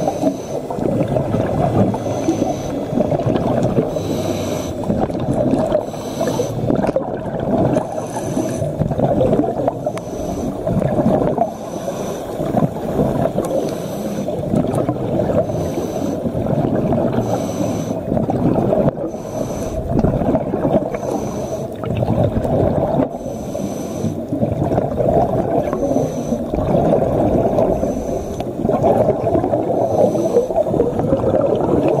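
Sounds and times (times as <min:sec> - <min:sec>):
muffled underwater water rushing: 0:00.0 - 0:32.0.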